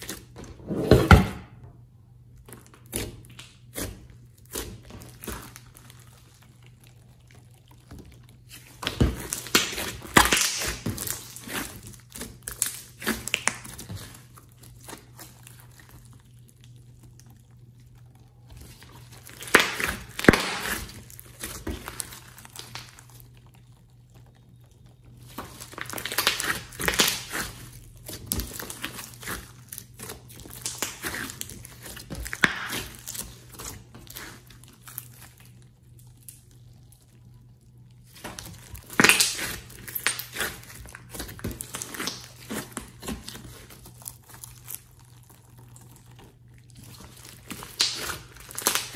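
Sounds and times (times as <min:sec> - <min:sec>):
slime squeezed wet crackling: 0:02.4 - 0:48.9.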